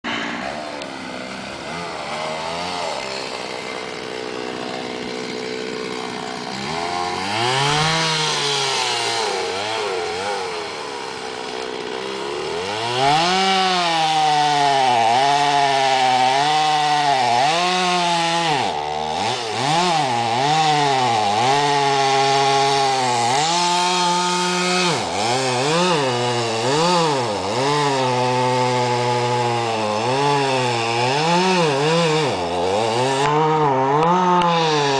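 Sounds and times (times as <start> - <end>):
chainsaw cutting into wood: 0.0 - 34.9
chainsaw running and revving: 0.0 - 34.9.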